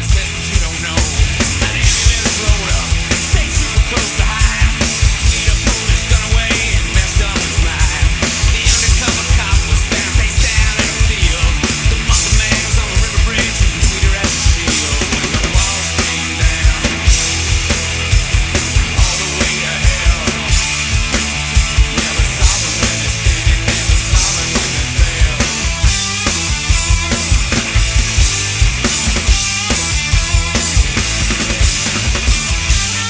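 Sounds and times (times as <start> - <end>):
distorted guitars: 0.0 - 33.0
fast drum kit: 0.0 - 33.0.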